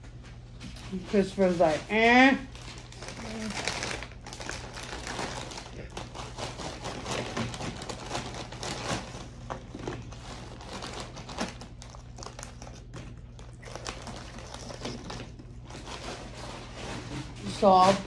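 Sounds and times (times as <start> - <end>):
chip bag crinkling: 1.3 - 18.0.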